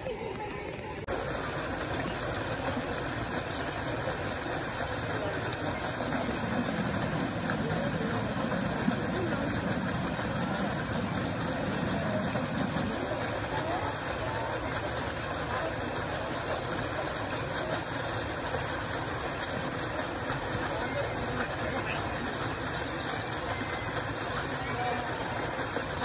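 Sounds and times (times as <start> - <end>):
fountain jet splashing into pond: 0.1 - 26.0.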